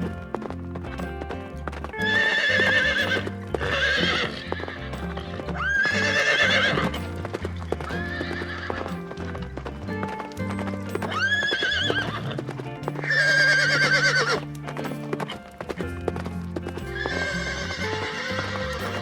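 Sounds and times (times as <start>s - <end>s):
horse whinnying: 0.0s - 14.6s, 16.8s - 19.0s
background music with steady beat: 0.0s - 19.0s.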